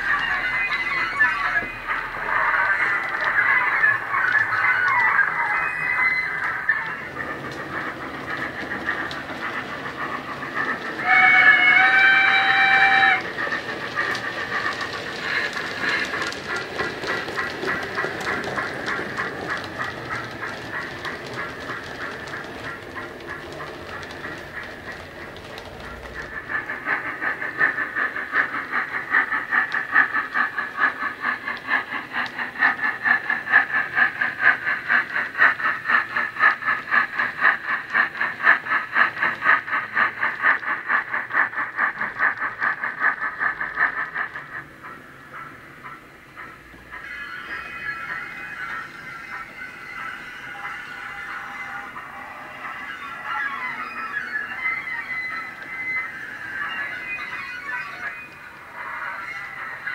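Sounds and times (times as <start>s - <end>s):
steam locomotive chuffs through speaker: 0.0s - 59.9s.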